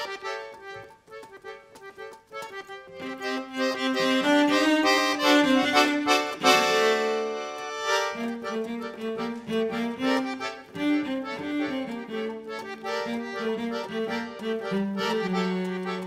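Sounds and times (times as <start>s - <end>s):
accordion: 0.0s - 16.0s
cello: 3.0s - 16.0s.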